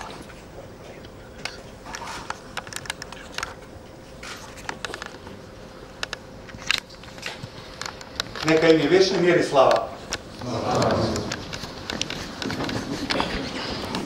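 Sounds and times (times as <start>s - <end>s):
faint steady hum: 0.0s - 14.0s
small clicks and rustles: 1.0s - 5.4s, 6.0s - 14.0s.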